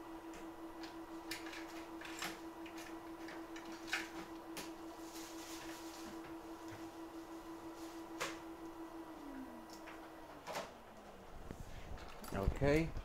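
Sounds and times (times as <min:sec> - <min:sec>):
pulsing equipment hum: 0:00.0 - 0:13.0.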